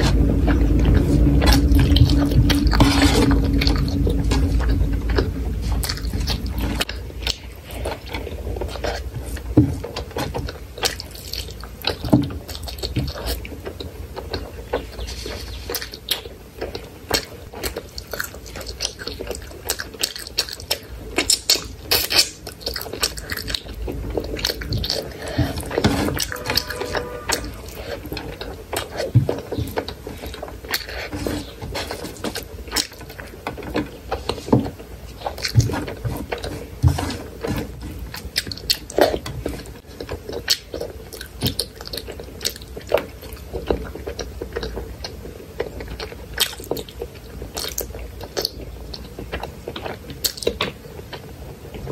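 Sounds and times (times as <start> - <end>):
wet chewing and mouth smacking: 3.3 - 51.9.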